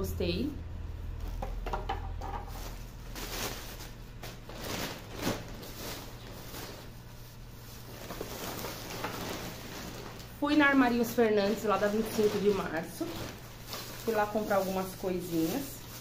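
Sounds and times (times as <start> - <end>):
plastic bag rustling: 1.1 - 16.0.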